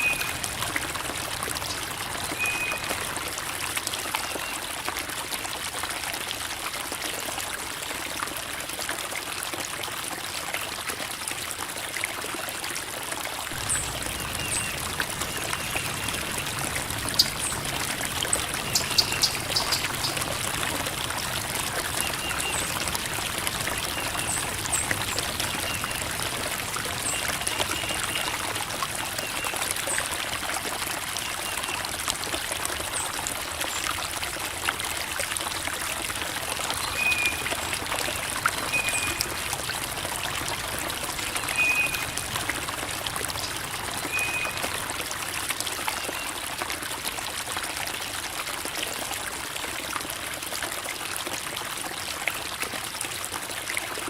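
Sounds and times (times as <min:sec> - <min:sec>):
creek water flowing over rocks: 0:00.0 - 0:54.0.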